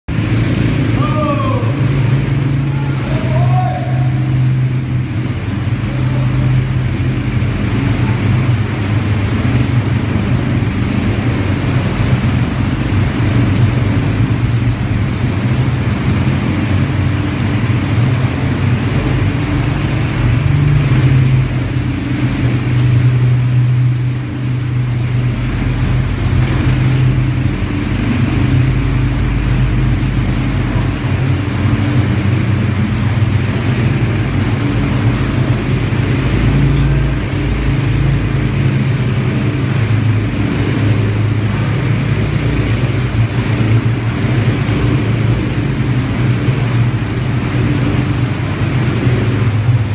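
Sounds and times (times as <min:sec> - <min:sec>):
quad bike engines running: 0:00.1 - 0:49.9.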